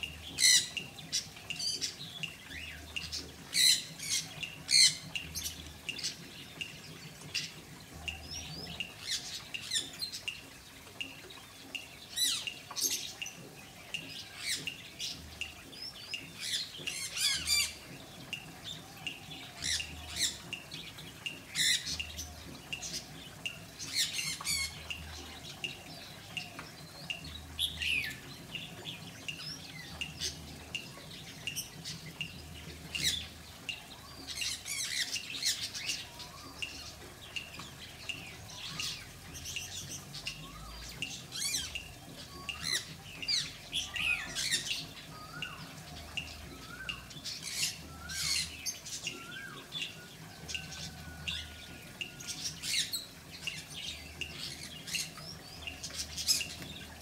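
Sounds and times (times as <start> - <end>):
pet birds calling: 0.0 - 50.8.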